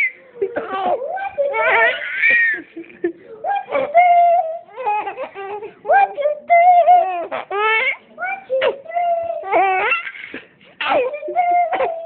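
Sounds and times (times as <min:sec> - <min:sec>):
baby laughing: 0:00.0 - 0:12.0.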